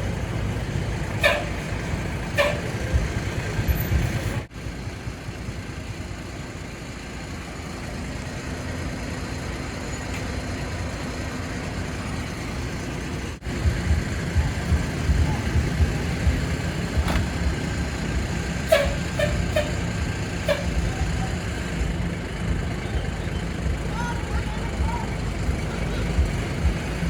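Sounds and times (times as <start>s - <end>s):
bus engine running: 0.0s - 27.0s.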